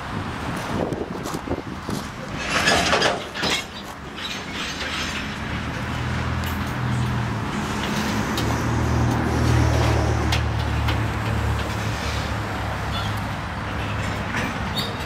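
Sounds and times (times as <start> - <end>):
train cars rumbling on rails: 0.0 - 15.0
diesel engine drone: 2.0 - 14.8.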